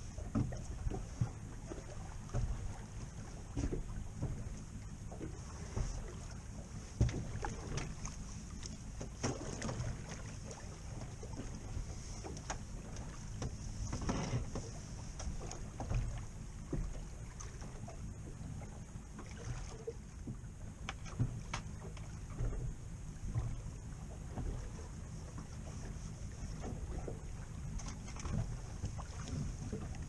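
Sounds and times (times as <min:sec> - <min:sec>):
choppy water against hull: 0:00.0 - 0:30.0.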